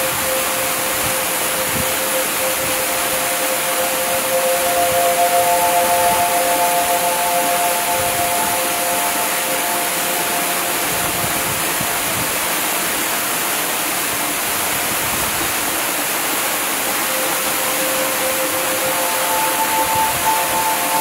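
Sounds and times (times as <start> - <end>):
soft held tones: 0.0 - 13.5, 16.9 - 21.0
steady even hiss: 0.0 - 21.0.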